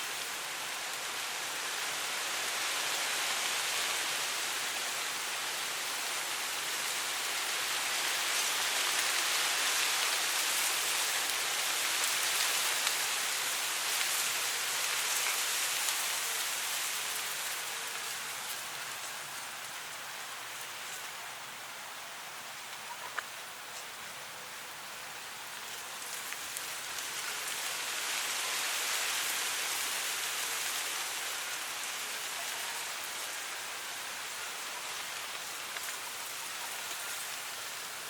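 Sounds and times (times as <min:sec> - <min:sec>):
wind rustling dry grass: 0:00.0 - 0:38.0.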